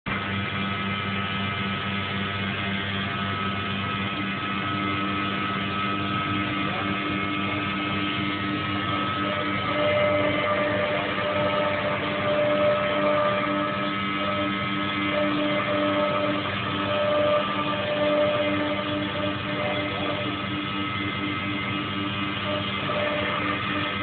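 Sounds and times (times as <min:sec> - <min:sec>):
higher machine tone: 0:00.1 - 0:24.0
on-and-off tone: 0:00.1 - 0:24.0
router machine hum and whine: 0:00.1 - 0:24.0.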